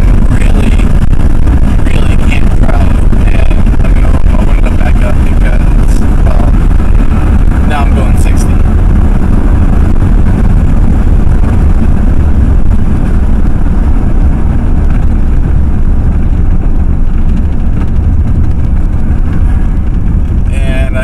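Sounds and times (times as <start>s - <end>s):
heavy low engine rumble: 0.0s - 21.0s
road and wind noise: 0.0s - 21.0s.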